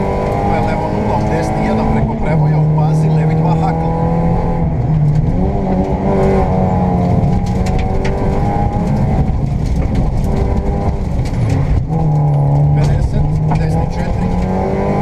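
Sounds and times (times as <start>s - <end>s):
car engine from inside cabin: 0.0s - 15.0s
road noise: 0.0s - 15.0s.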